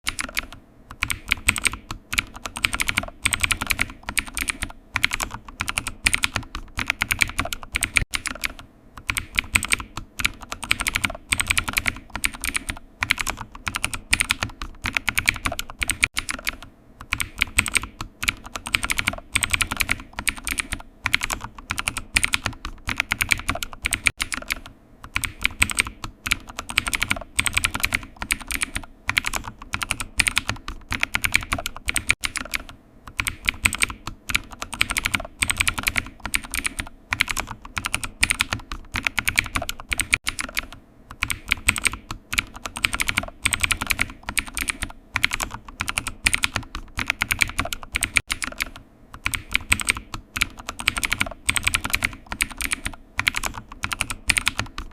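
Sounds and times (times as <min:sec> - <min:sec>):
keyboard typing: 0:00.0 - 0:54.9.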